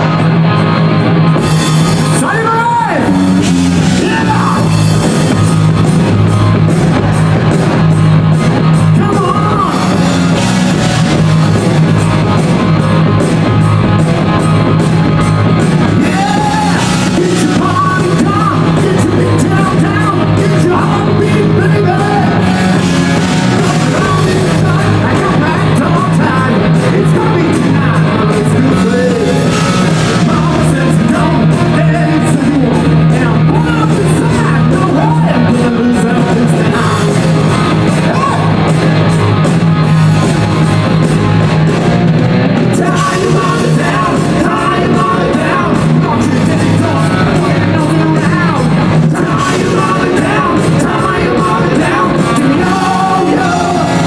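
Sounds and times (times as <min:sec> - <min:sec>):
rock music with singing: 0:00.0 - 0:54.0.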